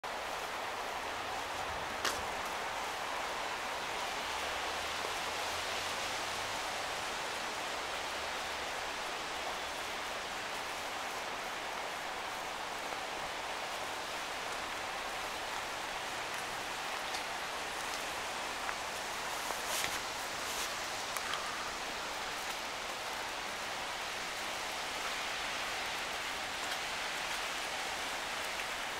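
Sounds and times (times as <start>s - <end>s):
water rushing along channel: 0.0s - 28.9s.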